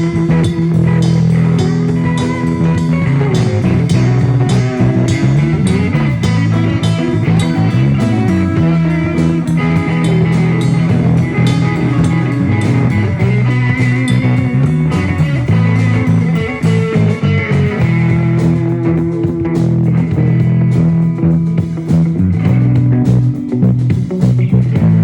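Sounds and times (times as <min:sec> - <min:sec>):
drum hits: 0:00.0 - 0:21.0
bass line: 0:00.0 - 0:25.0
electric guitar playing: 0:00.0 - 0:25.0.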